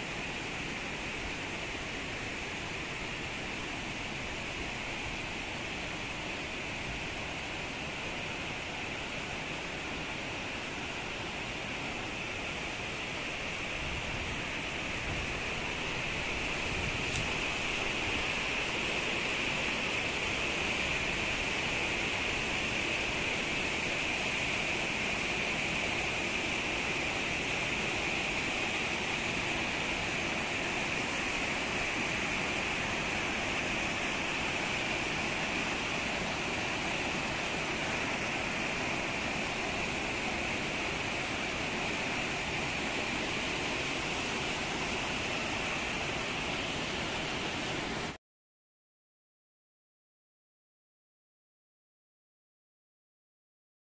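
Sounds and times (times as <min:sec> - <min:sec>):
stream water rushing over rocks: 0:00.0 - 0:48.2.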